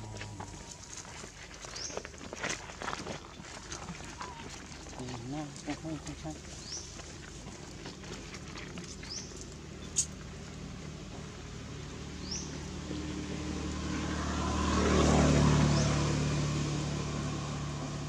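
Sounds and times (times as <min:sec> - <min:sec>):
motor vehicle passing: 0:00.0 - 0:02.1, 0:03.6 - 0:18.0.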